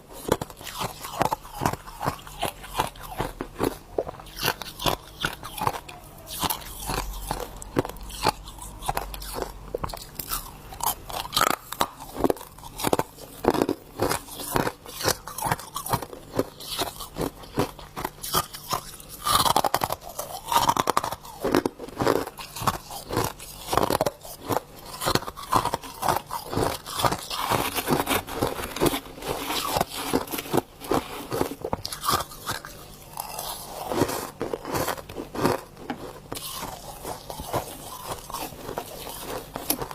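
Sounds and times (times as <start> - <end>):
frost being chewed with crunches: 0.0 - 39.9.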